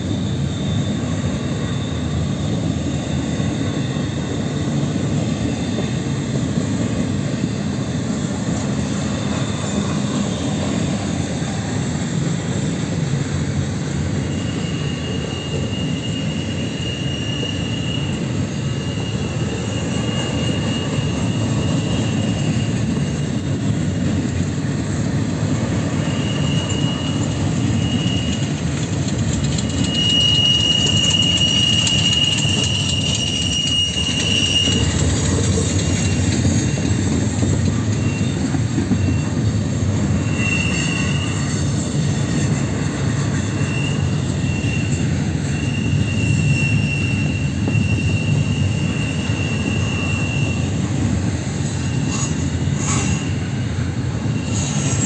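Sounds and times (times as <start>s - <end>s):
high wheel squeal: 0.0s - 55.0s
train wheels rumbling on rail: 0.0s - 55.0s.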